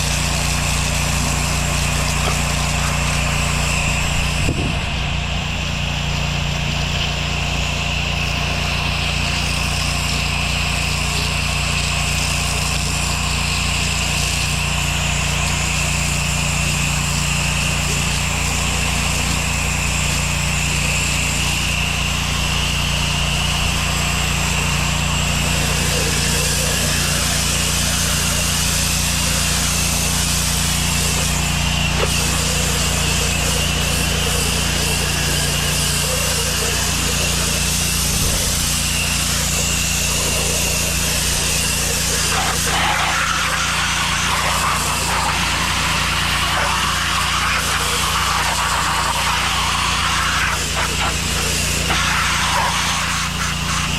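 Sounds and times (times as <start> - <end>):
high-pitched spray whine: 0.0 - 53.9
pressure washer engine running: 0.0 - 53.9.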